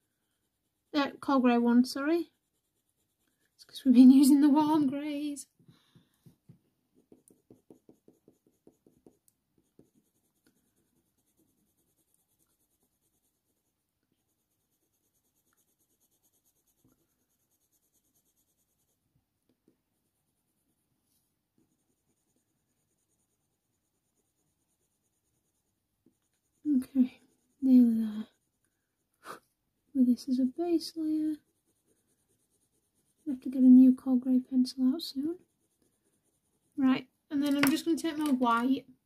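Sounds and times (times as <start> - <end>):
colour pencil scratching on paper: 0.0 - 38.8.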